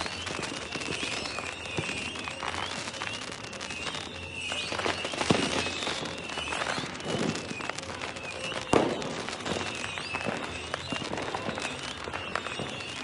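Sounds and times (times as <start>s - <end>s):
fireworks crackling: 0.0s - 13.0s
fireworks whistling: 0.0s - 13.0s
sharp fireworks bangs: 0.0s - 13.0s.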